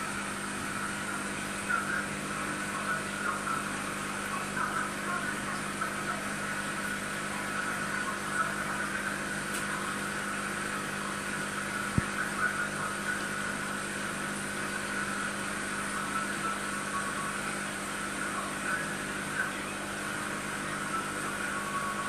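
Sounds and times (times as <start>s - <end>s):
aquarium air pump humming: 0.0s - 22.0s.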